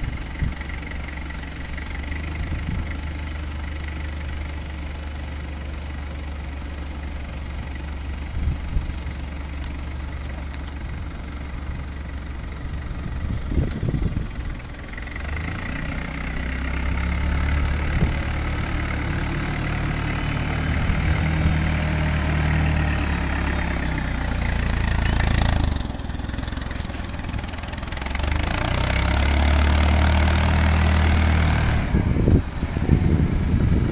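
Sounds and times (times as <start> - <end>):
forklift engine idling: 0.0 - 33.9.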